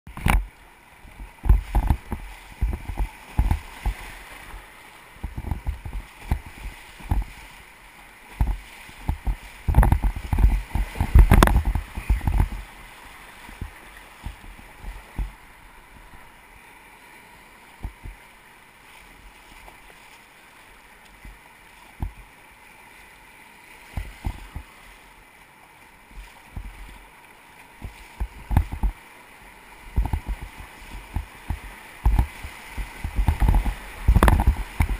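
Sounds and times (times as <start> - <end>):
waves and paddle thumping hull: 0.1 - 34.9
white water rushing: 0.1 - 34.9.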